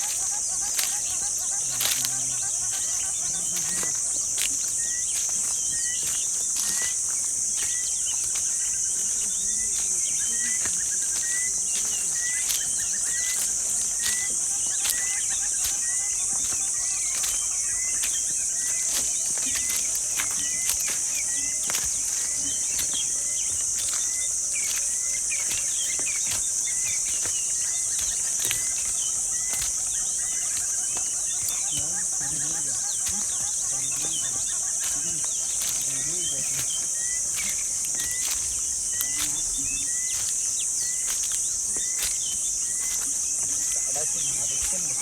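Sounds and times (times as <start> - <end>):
bird chirps: 0.0 - 45.0
chorus of jungle insects: 0.0 - 45.0.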